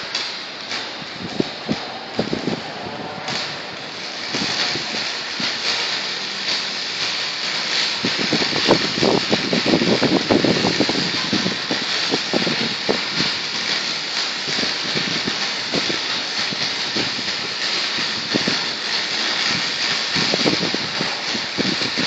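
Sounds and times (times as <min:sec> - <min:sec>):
arc welding crackling hiss: 0:00.0 - 0:22.0.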